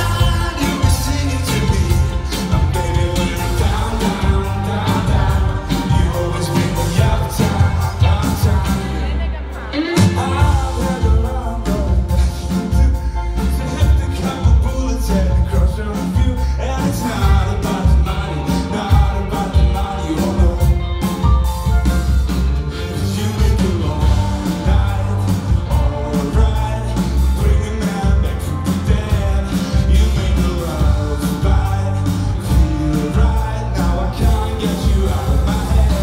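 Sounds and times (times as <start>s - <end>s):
drum beat: 0.0s - 9.2s, 9.8s - 36.0s
bass guitar: 0.0s - 36.0s
electric guitar: 0.0s - 36.0s
man singing: 0.0s - 36.0s.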